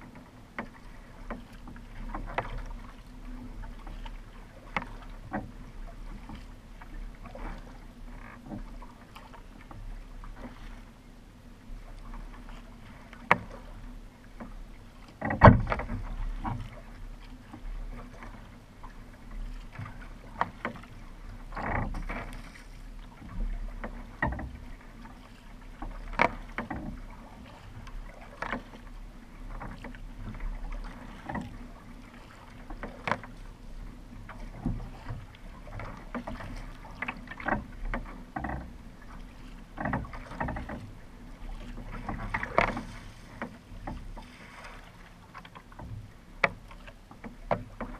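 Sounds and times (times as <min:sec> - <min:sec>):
kayak paddle splashing: 0:00.0 - 0:47.9
water running past hull: 0:00.0 - 0:47.9.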